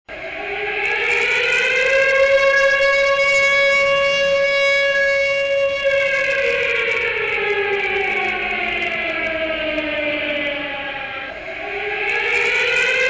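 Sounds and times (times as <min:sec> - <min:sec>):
siren wailing: 0:00.1 - 0:13.0.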